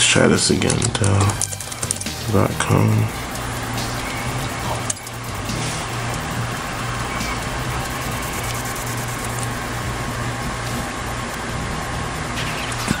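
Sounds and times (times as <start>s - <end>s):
steady low hum: 0.0s - 13.0s
constant rushing noise: 0.6s - 13.0s.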